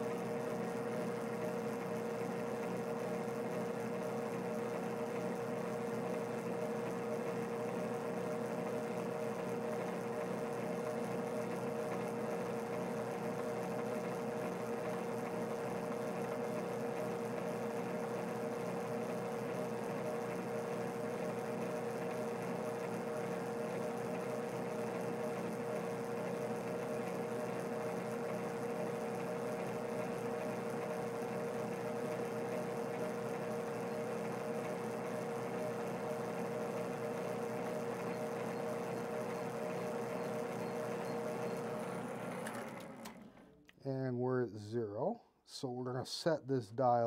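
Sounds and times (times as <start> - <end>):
metal lathe motor humming: 0.0 - 43.6.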